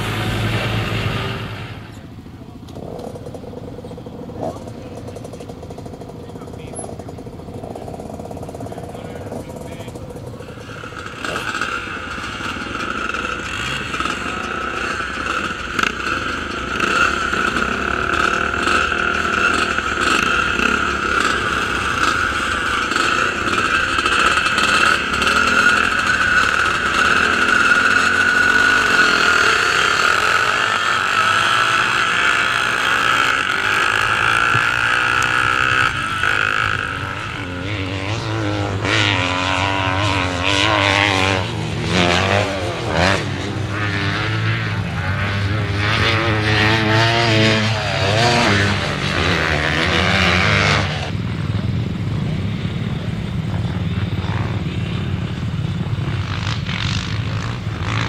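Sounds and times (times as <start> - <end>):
motorcycle revving up: 0.0 - 58.0
racing motorcycle engines: 0.0 - 58.0.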